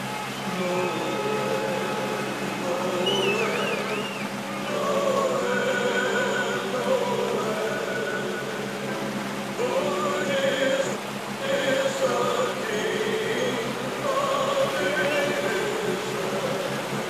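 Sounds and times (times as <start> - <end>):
choral singing: 0.0 - 17.0
low hum: 0.0 - 17.0.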